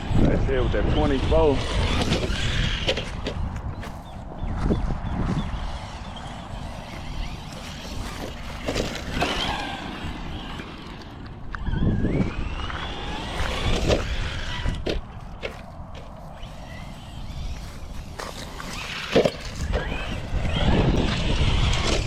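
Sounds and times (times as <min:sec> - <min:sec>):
rc truck motor whine: 0:00.0 - 0:22.0.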